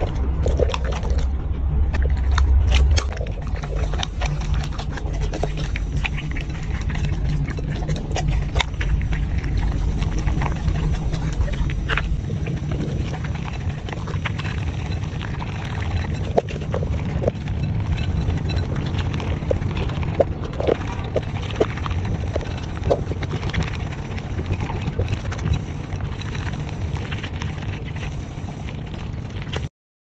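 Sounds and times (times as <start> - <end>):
dog chewing dry kibble: 0.0 - 29.7
low steady rumble: 0.0 - 29.7.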